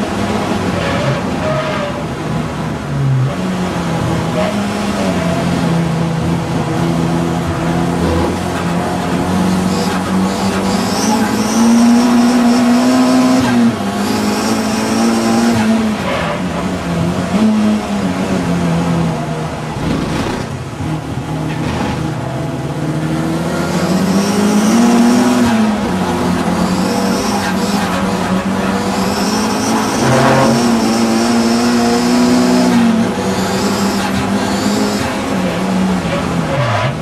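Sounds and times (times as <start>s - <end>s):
race car engine accelerating: 0.0s - 37.0s.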